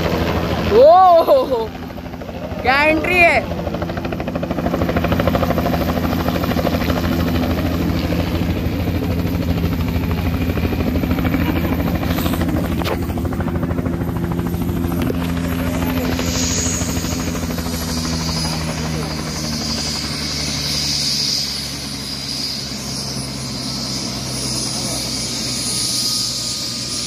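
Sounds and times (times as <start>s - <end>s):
helicopter engine drone: 0.0s - 27.0s
helicopter rotor chopping: 0.0s - 27.0s.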